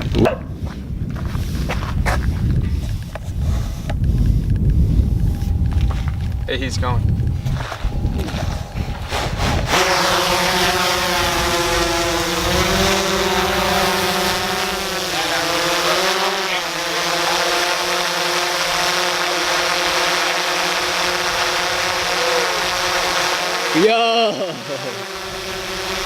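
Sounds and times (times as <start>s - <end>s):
dirt bike engine running: 1.1s - 26.0s.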